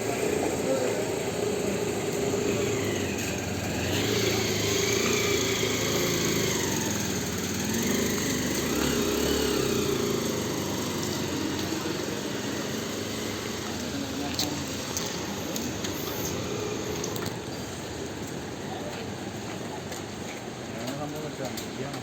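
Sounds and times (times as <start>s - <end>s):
small engine running: 0.0s - 18.6s.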